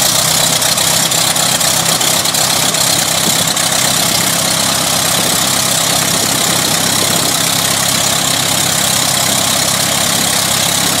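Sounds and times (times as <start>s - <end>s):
aircraft piston engine running: 0.0s - 11.0s.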